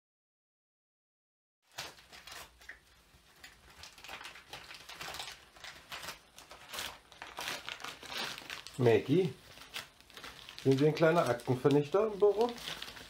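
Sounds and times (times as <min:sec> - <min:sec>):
paper crinkling and tearing: 0:01.7 - 0:13.0.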